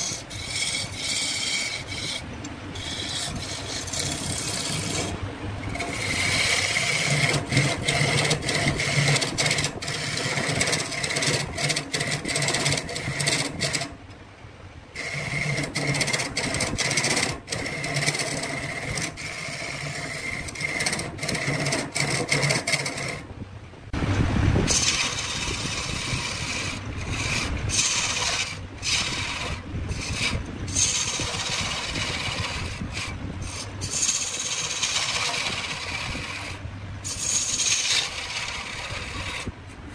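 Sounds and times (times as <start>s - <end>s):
tool scraping wood on lathe: 0.0s - 14.0s, 14.9s - 23.3s, 24.7s - 39.9s
low motor hum: 0.0s - 39.9s.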